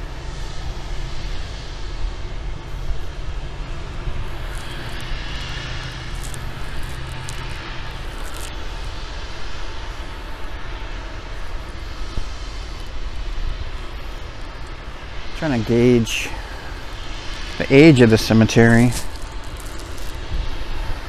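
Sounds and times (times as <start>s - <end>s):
engine droning: 0.0s - 21.0s
low hum: 0.0s - 21.0s.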